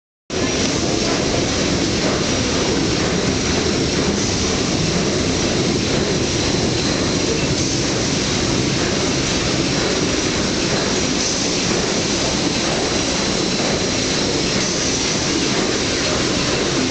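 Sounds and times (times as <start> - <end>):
engine-room machinery din: 0.3 - 16.9.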